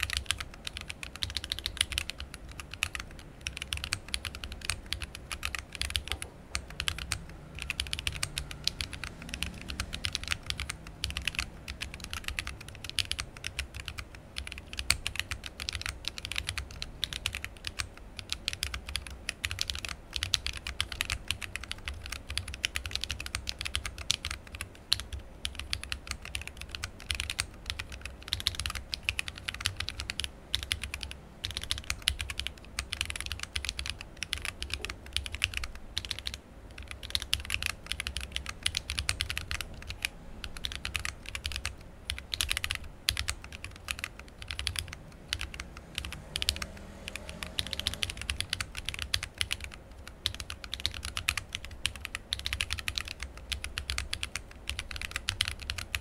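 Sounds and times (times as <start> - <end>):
fast keyboard typing clacks: 0.0 - 56.0.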